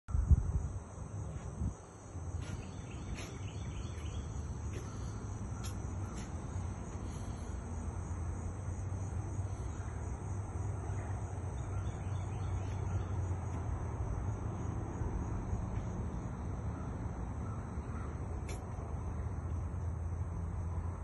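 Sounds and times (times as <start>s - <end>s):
insects droning: 0.1s - 21.0s.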